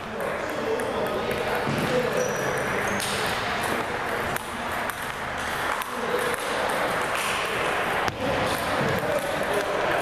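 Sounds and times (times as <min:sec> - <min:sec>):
gym hall background noise: 0:00.0 - 0:10.0
table tennis balls clicking: 0:00.0 - 0:10.0.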